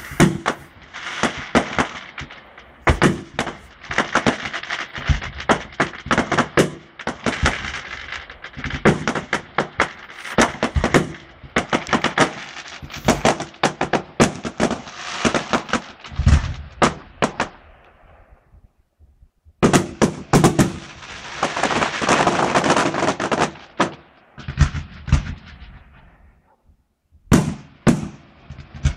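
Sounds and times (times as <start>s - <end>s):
fireworks bangs and crackling: 0.0s - 26.6s, 27.2s - 28.9s.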